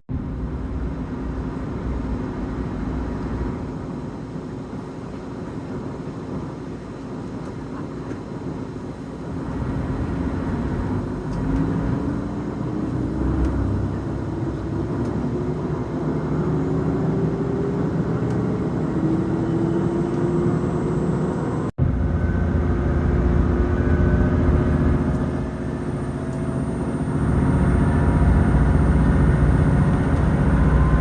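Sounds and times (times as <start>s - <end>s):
diesel railcar engine rising in pitch: 0.1s - 4.8s, 8.9s - 31.0s.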